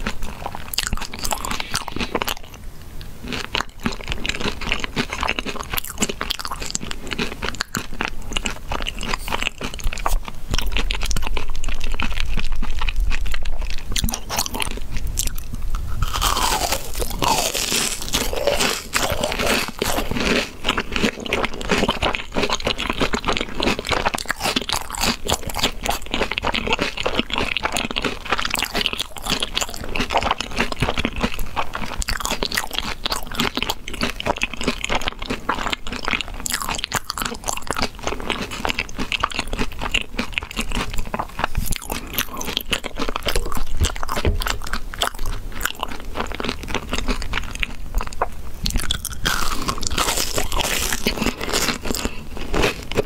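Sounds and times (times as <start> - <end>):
crunching fried food: 0.0 - 53.0.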